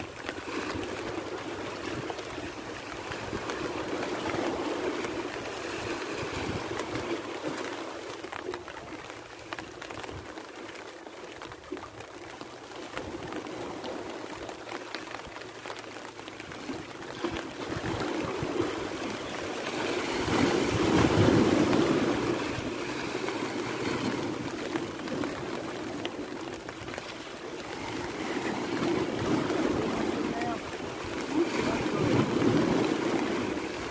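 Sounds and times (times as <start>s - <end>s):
sea waves washing against rocks: 0.0s - 33.9s.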